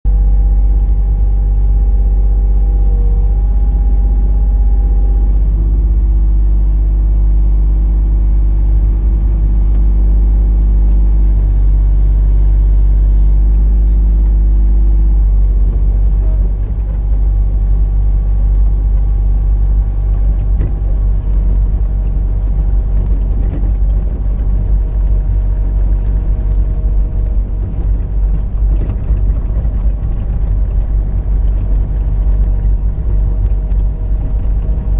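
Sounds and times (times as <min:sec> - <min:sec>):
excavator engine running: 0:00.0 - 0:34.9
steady hum: 0:00.0 - 0:34.9.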